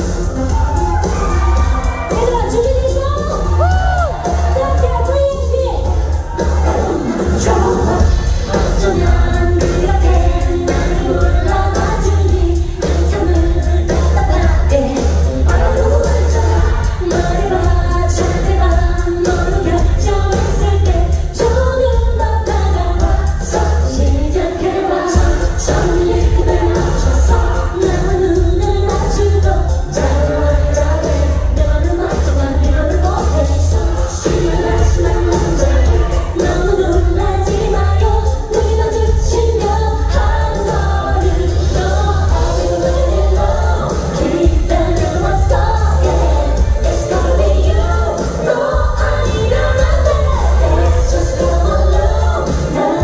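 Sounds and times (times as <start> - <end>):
amplified pop music: 0.0 - 53.0
live band with heavy bass: 0.0 - 53.0
woman singing: 0.0 - 53.0.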